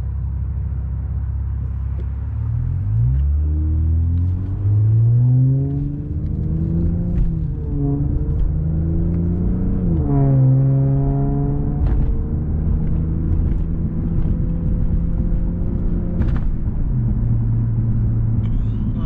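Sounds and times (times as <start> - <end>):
car engine drone from inside cabin: 0.0 - 19.0.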